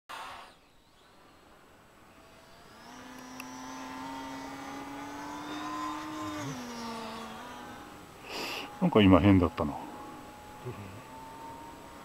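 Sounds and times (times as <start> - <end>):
model airplane motor whining: 2.1 - 12.0.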